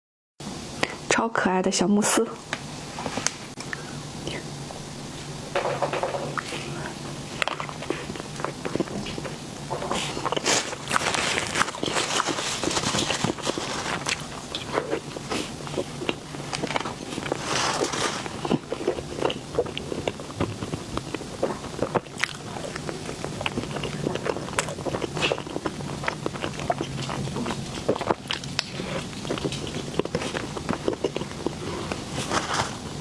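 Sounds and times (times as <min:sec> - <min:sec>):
bites and chewing: 0:06.4 - 0:33.0.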